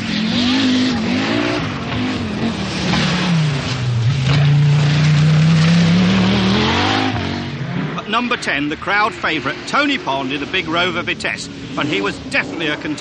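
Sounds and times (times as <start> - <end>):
rally car engine running hard: 0.0 - 13.0.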